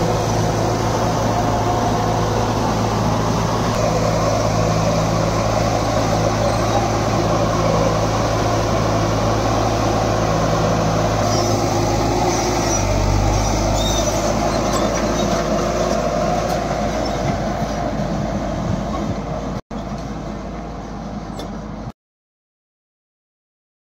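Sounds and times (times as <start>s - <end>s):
road roller engine humming: 0.0s - 21.9s.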